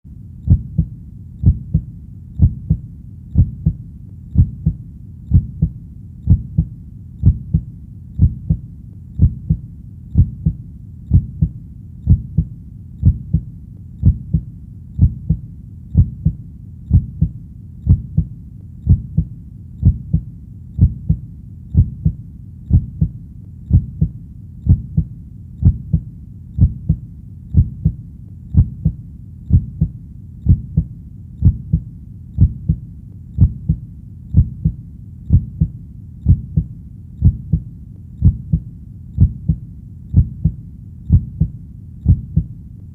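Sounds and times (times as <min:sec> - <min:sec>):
heart beating: 0:00.5 - 0:32.8, 0:33.4 - 0:42.5.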